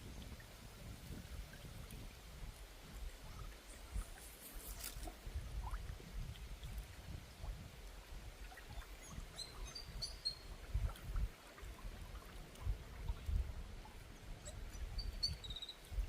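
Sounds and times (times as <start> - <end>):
flowing water: 0.0 - 16.0.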